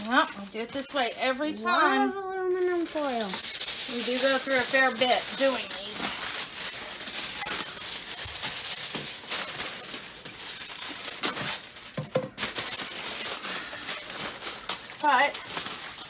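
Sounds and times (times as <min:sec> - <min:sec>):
aluminum foil crinkling: 0:00.0 - 0:16.0.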